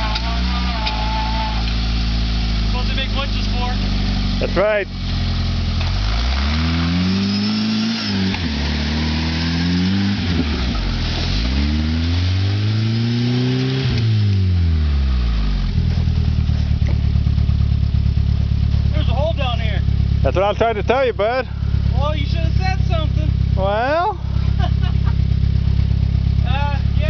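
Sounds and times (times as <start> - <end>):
car engine revving and idling: 0.0 - 27.0.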